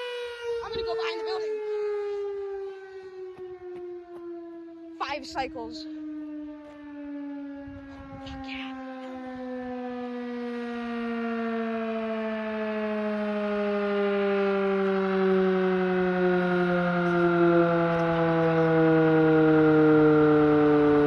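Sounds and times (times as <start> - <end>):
siren gliding down in pitch: 0.0 - 21.0.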